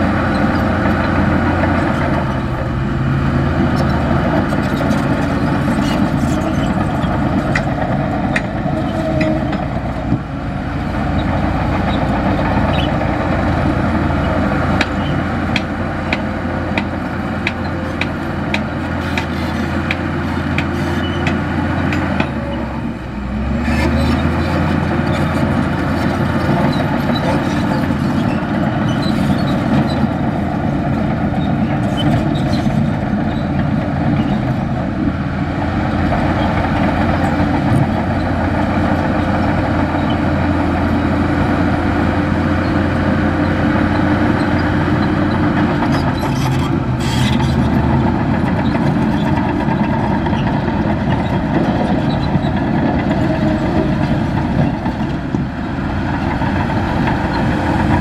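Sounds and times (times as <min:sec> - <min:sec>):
diesel construction machine running: 0:00.0 - 0:58.0.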